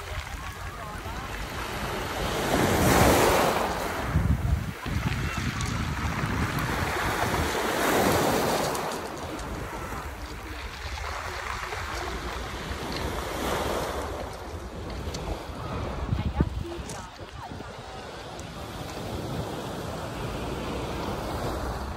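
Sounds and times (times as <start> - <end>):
waves on pebble beach: 0.0 - 21.9
wind buffeting microphone: 0.0 - 21.9.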